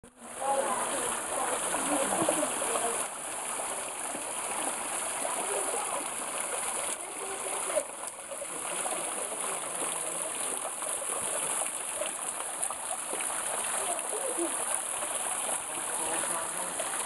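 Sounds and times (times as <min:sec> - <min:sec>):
small waterfall splashing: 0:00.0 - 0:17.0.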